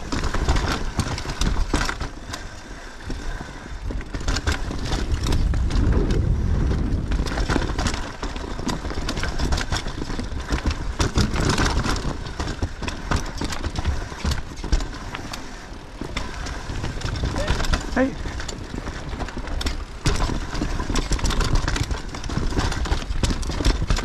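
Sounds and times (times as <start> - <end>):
bike rattling and knocking: 0.0 - 24.0
bike tyres rumbling over trail: 0.0 - 24.0
tyres rolling on wooden boardwalk: 0.0 - 24.0.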